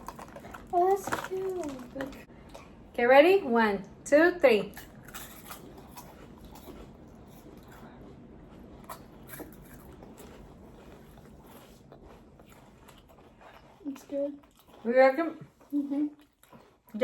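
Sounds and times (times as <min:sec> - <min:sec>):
crunching and chewing cookies: 0:00.0 - 0:03.0, 0:04.5 - 0:17.0.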